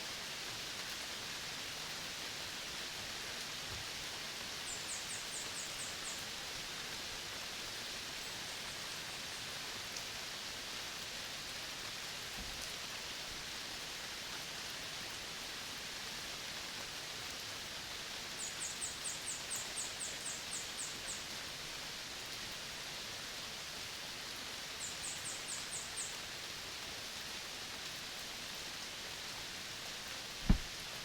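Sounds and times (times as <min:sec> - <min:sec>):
steady forest hiss: 0:00.0 - 0:31.0.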